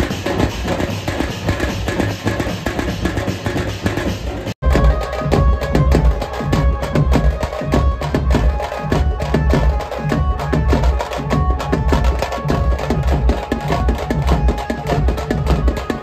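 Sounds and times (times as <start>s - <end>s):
fast dense drumming: 0.0s - 16.0s.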